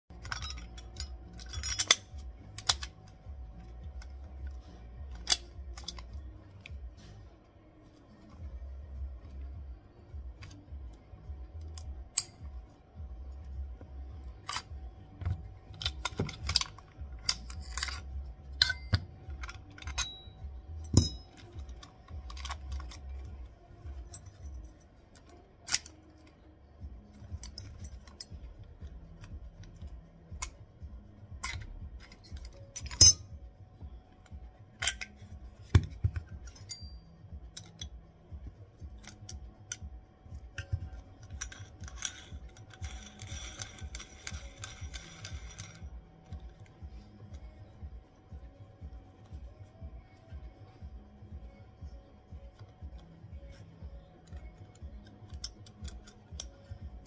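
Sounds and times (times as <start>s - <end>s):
small metallic clicks and clinks: 0.1s - 7.2s, 8.0s - 57.0s.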